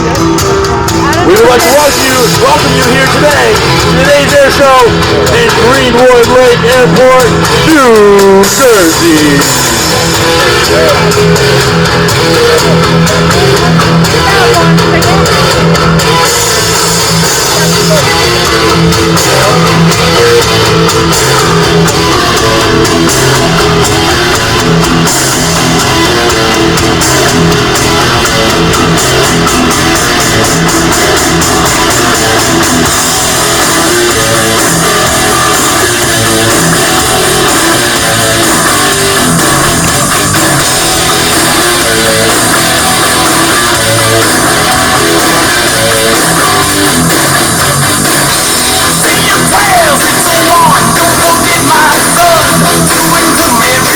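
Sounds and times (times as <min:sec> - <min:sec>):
rock music with guitar and drums: 0:00.0 - 0:53.9.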